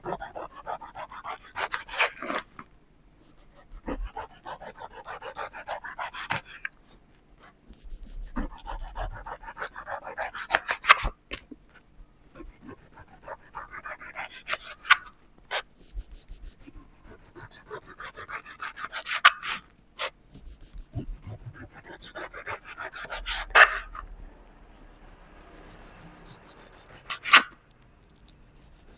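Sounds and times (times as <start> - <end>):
knife sawing pineapple rind: 0.0 - 2.6, 3.2 - 6.7, 7.7 - 11.2, 12.3 - 24.1, 24.8 - 27.6, 28.3 - 28.9.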